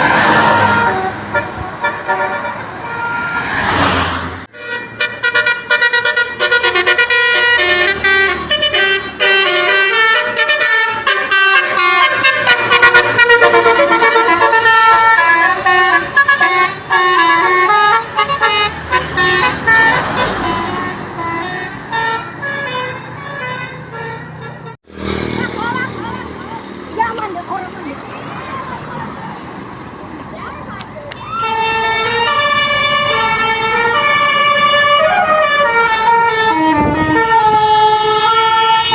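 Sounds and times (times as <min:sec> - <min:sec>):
vehicle musical horn melody: 0:00.2 - 0:03.6, 0:04.4 - 0:24.8, 0:31.3 - 0:38.9.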